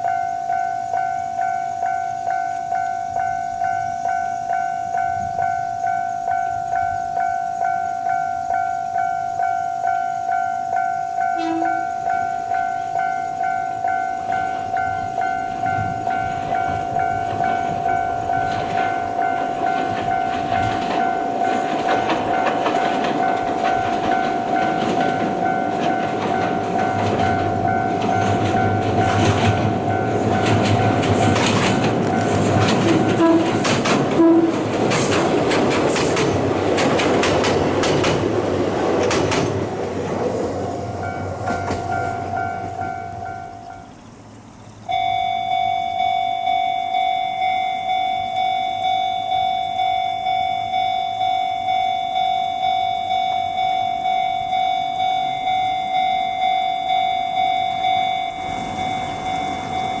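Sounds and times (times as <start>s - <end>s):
level-crossing alarm ringing: 0.0s - 38.1s, 40.6s - 44.2s, 44.8s - 60.0s
electric train approaching: 0.0s - 60.0s.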